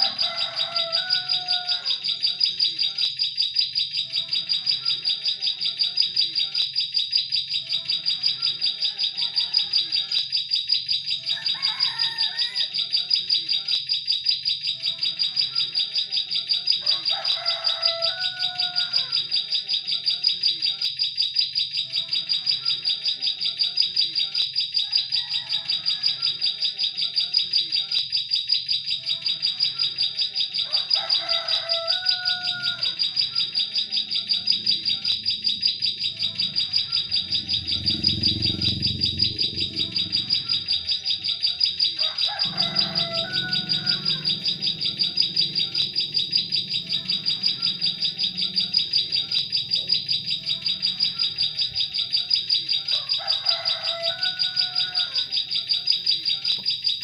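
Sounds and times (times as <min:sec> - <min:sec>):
high-pitched bird trill: 0:00.0 - 0:57.0.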